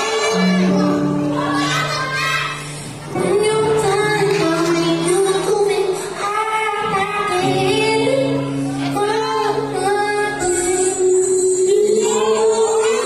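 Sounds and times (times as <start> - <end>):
pop music with high voice singing: 0.0 - 1.0, 3.1 - 13.0.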